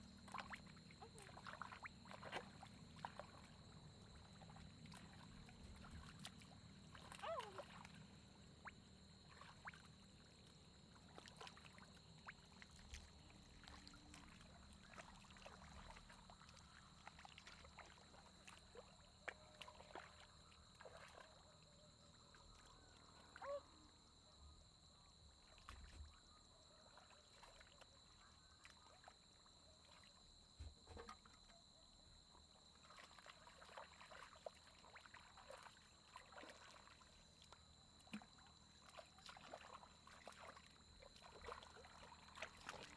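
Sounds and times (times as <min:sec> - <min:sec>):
water sloshing and splashing: 0:00.0 - 0:42.9.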